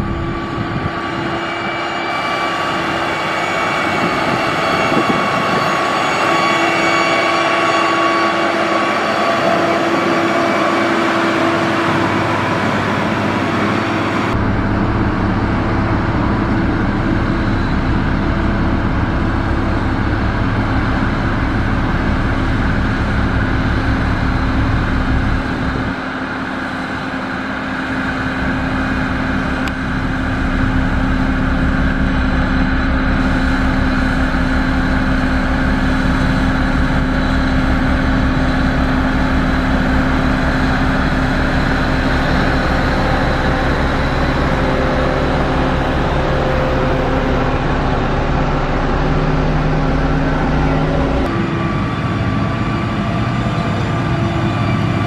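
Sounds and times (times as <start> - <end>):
heavy diesel engines rumbling: 0.0 - 55.0.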